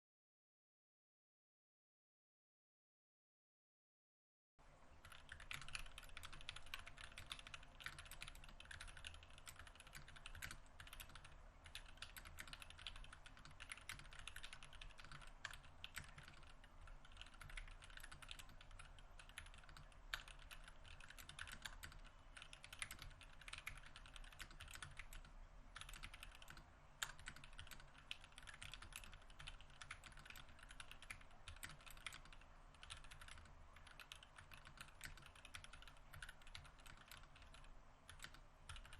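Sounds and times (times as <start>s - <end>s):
fast mechanical keyboard typing: 5.0s - 38.9s.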